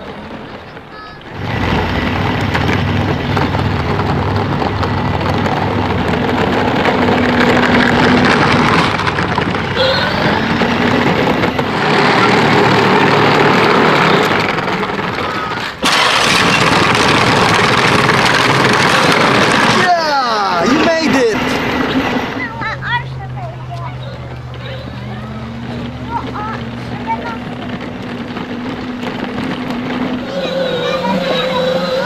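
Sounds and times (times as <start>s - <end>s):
electric toy quad motor whirring: 1.0s - 32.0s.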